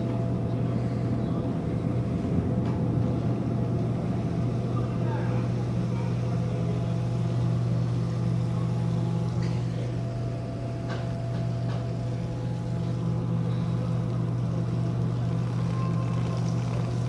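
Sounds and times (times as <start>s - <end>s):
low hum of ship machinery: 0.0s - 17.0s.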